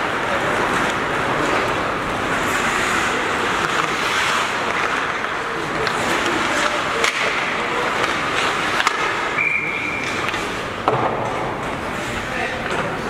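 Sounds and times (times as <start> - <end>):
skate blades scraping ice: 0.0 - 10.8
hockey sticks and puck clacking: 0.0 - 13.0.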